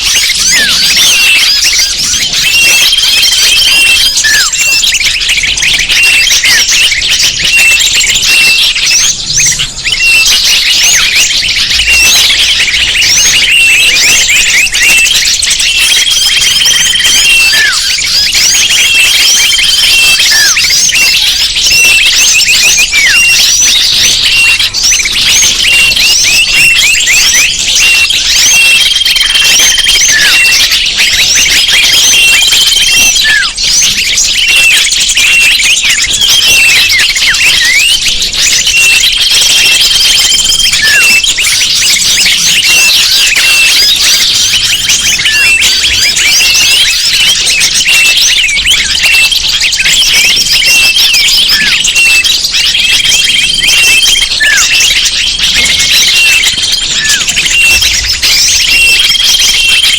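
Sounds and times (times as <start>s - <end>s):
high whistle: 0.0s - 5.3s, 5.9s - 59.9s
small birds chirping and twittering: 0.0s - 59.9s.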